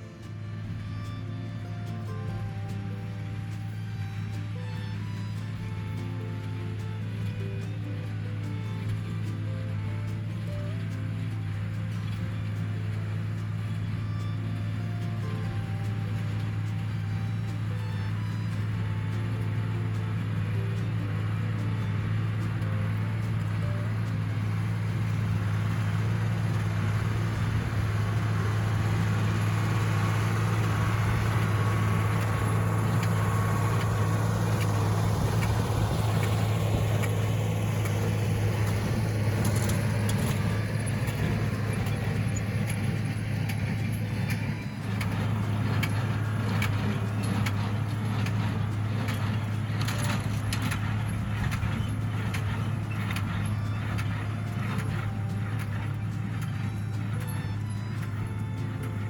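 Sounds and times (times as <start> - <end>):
clicks and rattles: 0.0 - 59.0
tractor engine running: 0.0 - 59.0.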